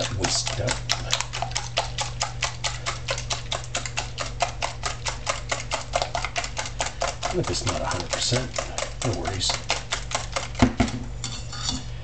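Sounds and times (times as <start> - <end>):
whisk clicking against bowl: 0.0 - 11.0
low stove hum: 0.0 - 12.0.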